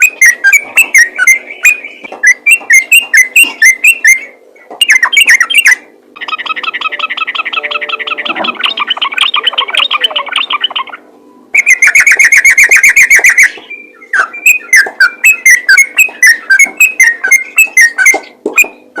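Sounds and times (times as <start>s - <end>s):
bulbul singing chirping notes: 0.0s - 19.0s.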